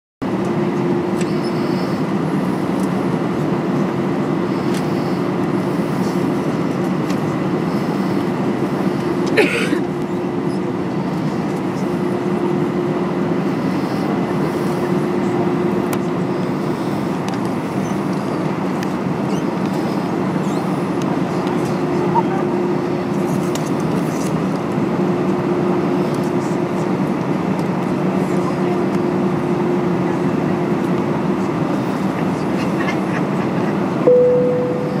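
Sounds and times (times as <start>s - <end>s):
airplane cabin engine hum: 0.2s - 35.0s.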